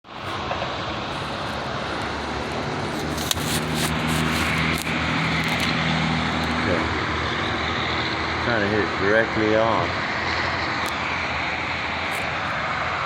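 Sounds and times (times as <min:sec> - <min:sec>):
constant rushing noise: 0:00.1 - 0:13.0
vehicle engine running: 0:00.1 - 0:13.0.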